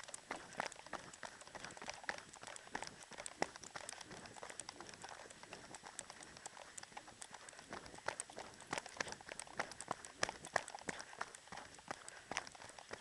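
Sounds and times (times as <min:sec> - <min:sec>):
running footsteps on dirt: 0:00.0 - 0:13.0.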